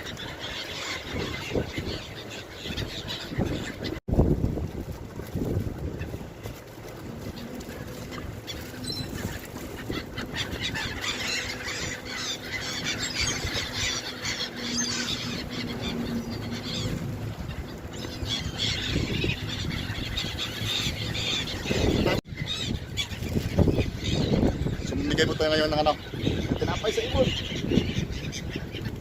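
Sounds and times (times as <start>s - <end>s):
seagulls calling: 0.0s - 4.0s, 5.6s - 29.0s.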